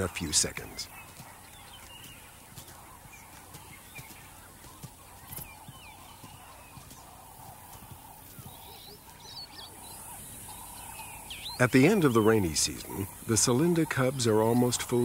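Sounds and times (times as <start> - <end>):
steady low hiss: 0.0 - 15.0
wild birds chirping: 0.0 - 15.0.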